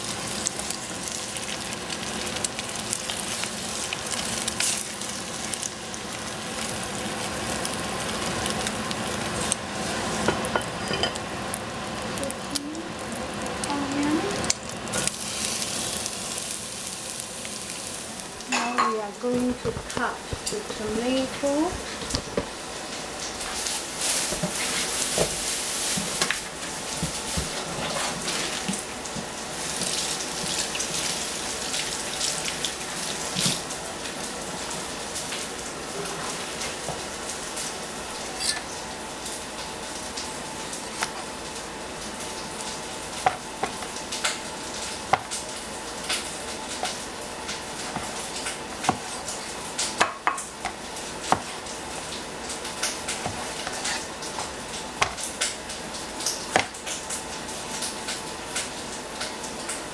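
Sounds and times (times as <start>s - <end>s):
onion sizzling in a hot pan: 0.0s - 59.9s.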